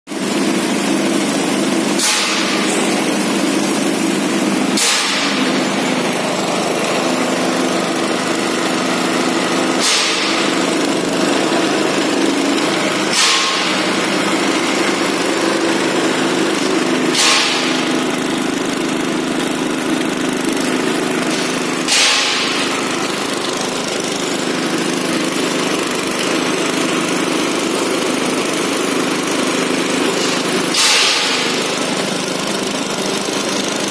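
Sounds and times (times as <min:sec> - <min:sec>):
screw conveyor moving granular material: 0:00.1 - 0:33.9
small petrol engine running: 0:00.1 - 0:33.9.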